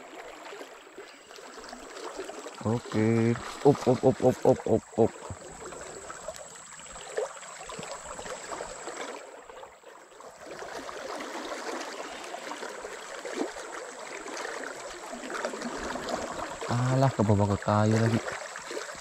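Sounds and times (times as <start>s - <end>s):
river water rushing: 1.5s - 9.4s, 10.2s - 19.0s.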